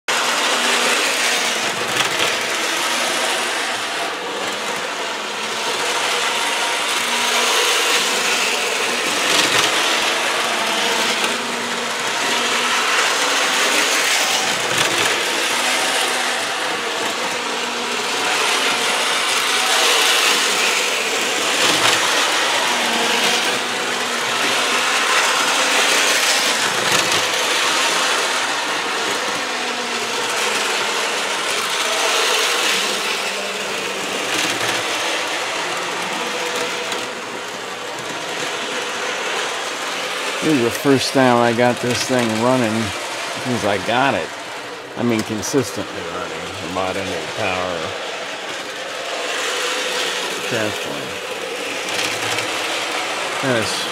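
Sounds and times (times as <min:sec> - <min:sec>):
small electric motor whirring: 0:00.1 - 0:44.8, 0:46.2 - 0:53.9
model train wheels clattering: 0:00.1 - 0:53.9.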